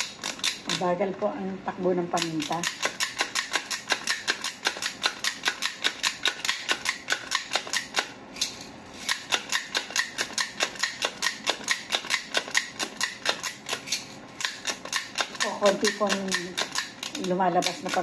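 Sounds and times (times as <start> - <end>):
pepper mill grinding clicks: 2.2 - 18.0.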